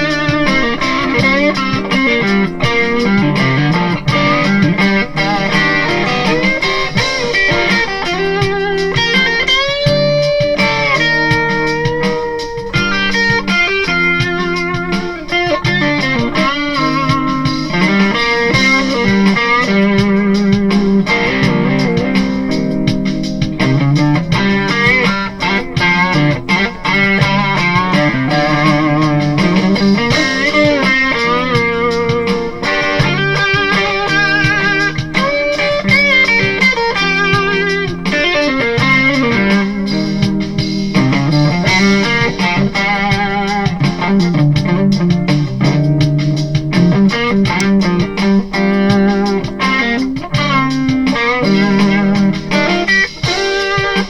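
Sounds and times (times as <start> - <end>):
electric guitar lead with vibrato: 0.0 - 54.0.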